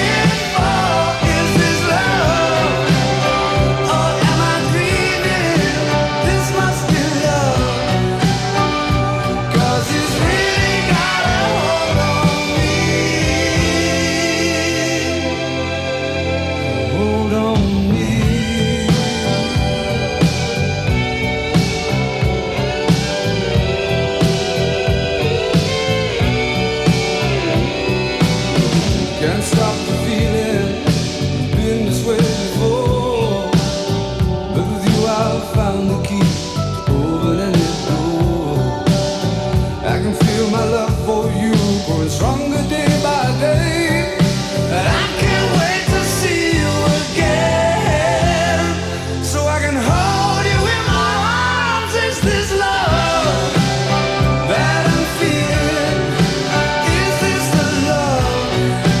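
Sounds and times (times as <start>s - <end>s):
rock song from vinyl record: 0.0s - 59.0s.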